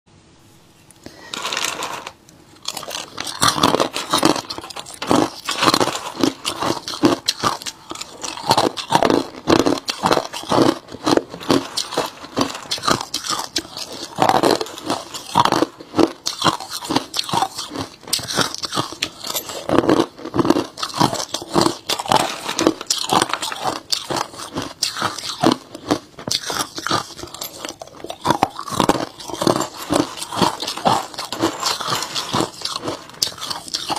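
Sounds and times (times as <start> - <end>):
ice crunching being chewed: 2.6 - 33.9.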